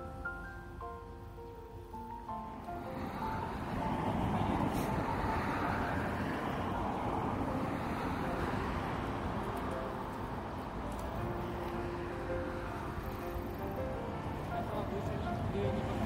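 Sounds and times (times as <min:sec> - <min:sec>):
faint music: 0:00.0 - 0:16.0
steady rushing outdoor noise: 0:00.0 - 0:16.0.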